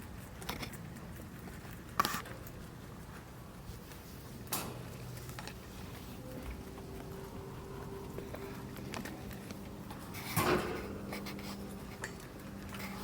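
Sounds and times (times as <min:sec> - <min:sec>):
rabbits nibbling and chewing: 0:00.0 - 0:13.0.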